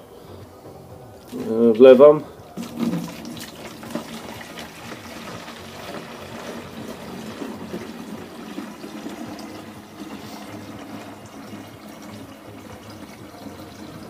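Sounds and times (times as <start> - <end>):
water pouring into bucket: 1.2 - 14.0.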